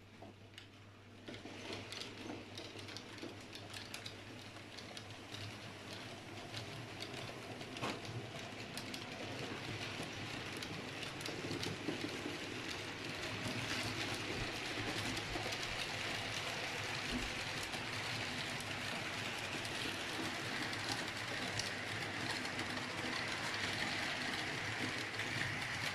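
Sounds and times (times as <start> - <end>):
model train wheels rumbling: 0.6 - 25.9.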